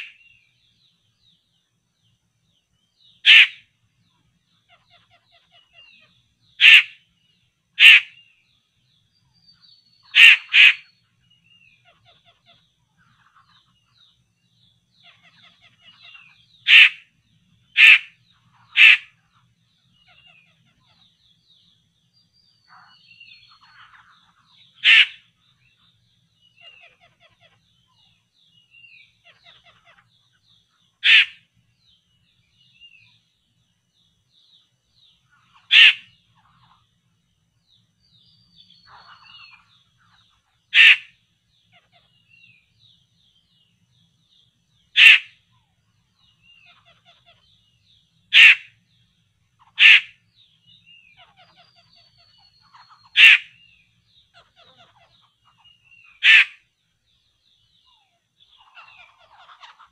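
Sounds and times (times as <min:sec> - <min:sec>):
faint high twittering: 0:00.0 - 0:59.9
harsh bird calls: 0:00.0 - 0:59.9.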